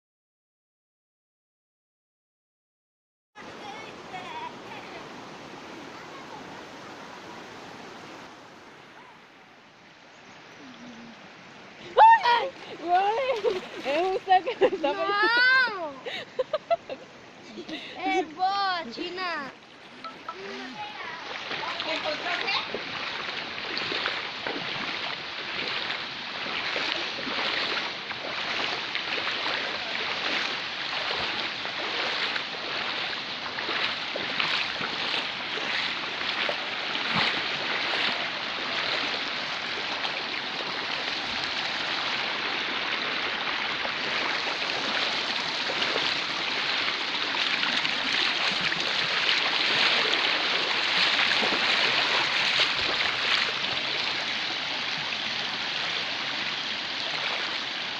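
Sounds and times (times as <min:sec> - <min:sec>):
river water rushing: 0:03.4 - 0:57.9.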